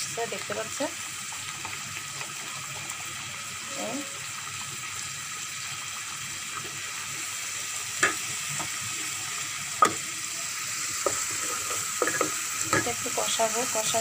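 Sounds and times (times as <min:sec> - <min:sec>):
curry simmering and sizzling: 0:00.0 - 0:14.0.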